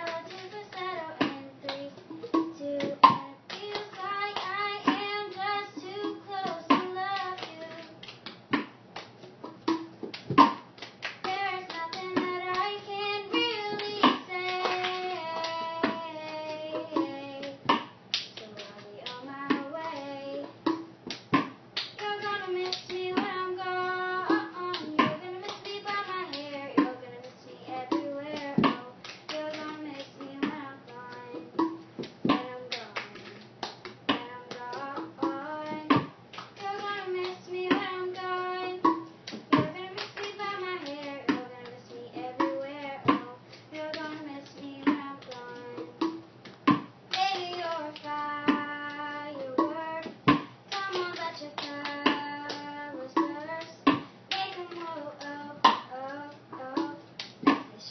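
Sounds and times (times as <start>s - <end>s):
girl singing: 0.0s - 8.5s, 11.2s - 20.7s, 21.9s - 46.2s, 47.1s - 57.9s
hands clapping: 0.0s - 12.8s, 13.4s - 20.1s, 20.7s - 23.4s, 27.9s - 57.7s.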